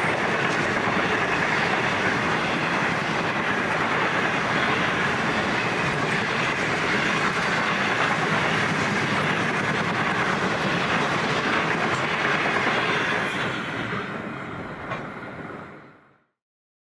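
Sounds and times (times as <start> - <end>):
freight train wheels on track: 0.0 - 16.2.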